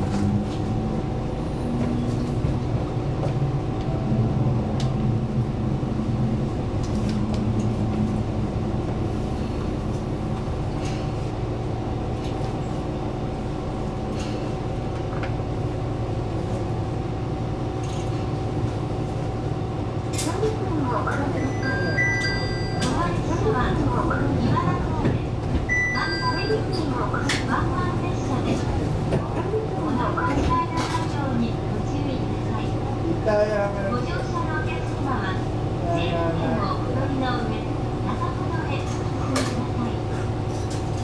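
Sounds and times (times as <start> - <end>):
railcar engine hum: 0.0 - 41.0.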